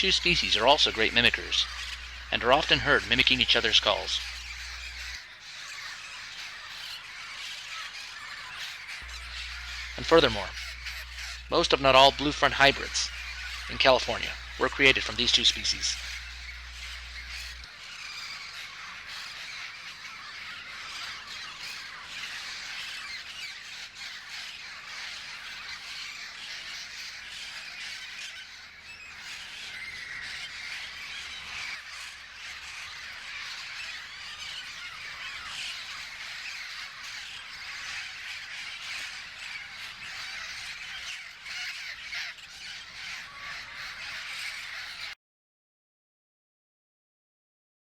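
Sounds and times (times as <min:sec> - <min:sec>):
parrots squawking and calling: 0:00.0 - 0:45.2.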